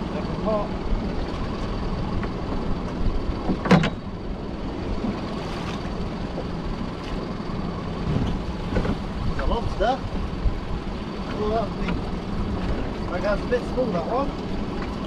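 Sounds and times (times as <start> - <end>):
boat motor running: 0.0 - 15.0
sea noise: 0.0 - 15.0
wind: 0.0 - 15.0.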